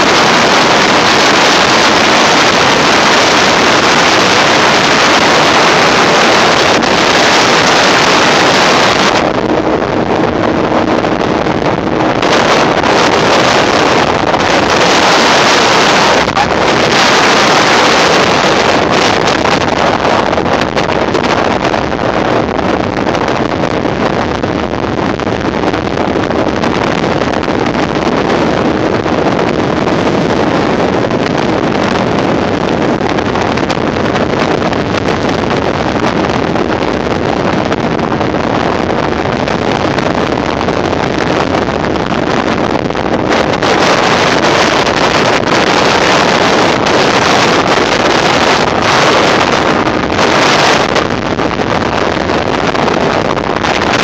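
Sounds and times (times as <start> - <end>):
motorboat running: 0.0 - 54.0
wind buffeting microphone: 0.0 - 54.0.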